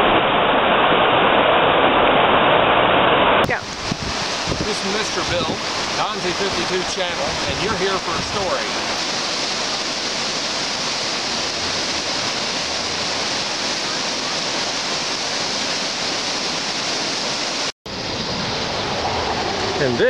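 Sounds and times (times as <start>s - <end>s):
river rushing over rocks: 3.5s - 20.0s.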